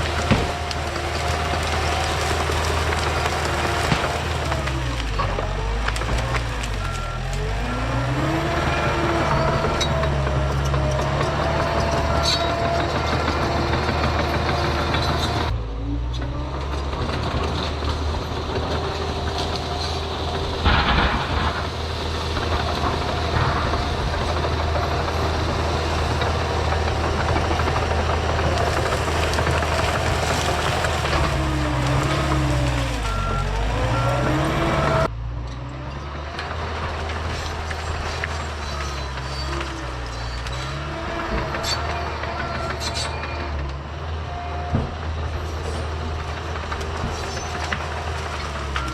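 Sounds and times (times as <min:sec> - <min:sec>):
diesel dozer engine running hard: 0:00.0 - 0:48.9.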